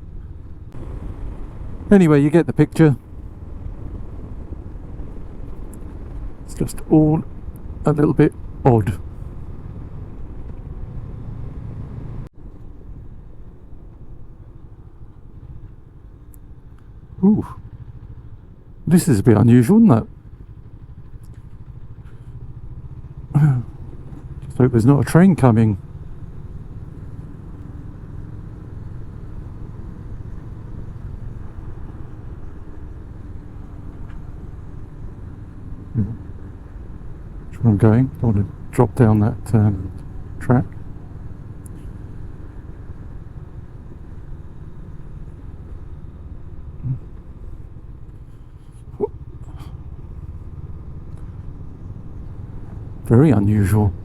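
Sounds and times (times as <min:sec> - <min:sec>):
motorcycle engine rumbling: 0:00.0 - 0:54.0
road noise: 0:00.0 - 0:54.0.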